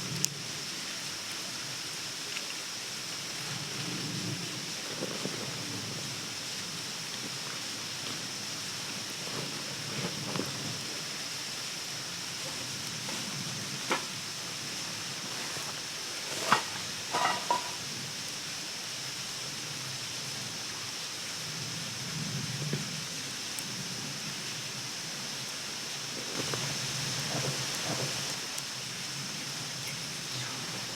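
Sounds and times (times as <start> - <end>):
rushing outdoor hiss: 0.0 - 30.9.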